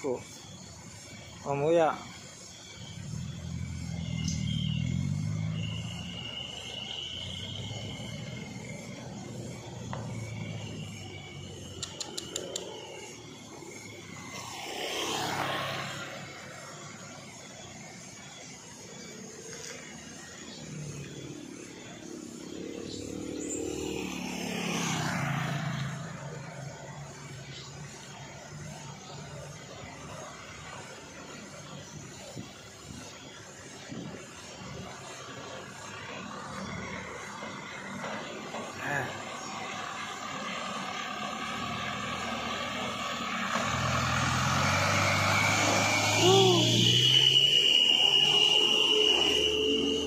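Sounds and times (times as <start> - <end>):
diesel truck engine at low speed: 0.0 - 50.0
insects buzzing: 0.0 - 50.0
motor scooter passing: 2.4 - 50.0.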